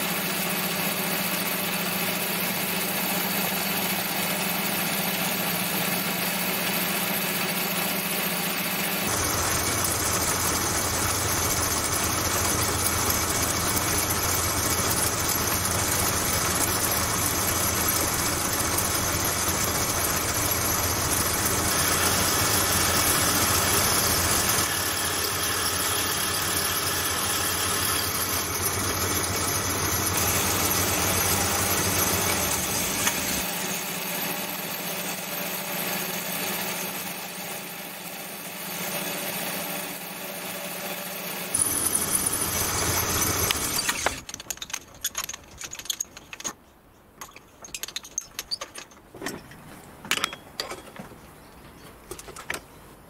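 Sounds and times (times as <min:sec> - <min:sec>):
lathe drilling whir: 0:00.0 - 0:44.3.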